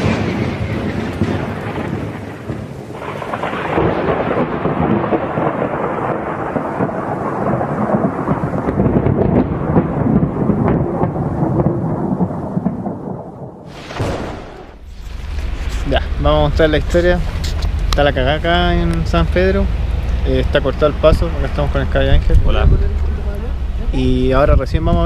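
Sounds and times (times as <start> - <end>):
steady rain: 0.0 - 25.0
thunder rumbling: 0.0 - 25.0.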